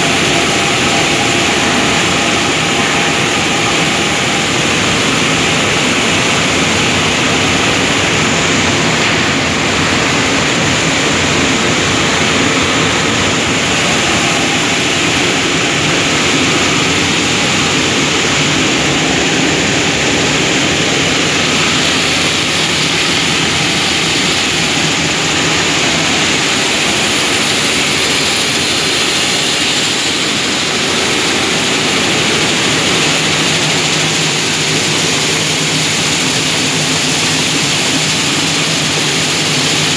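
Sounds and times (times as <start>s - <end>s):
machinery din: 0.0s - 38.9s.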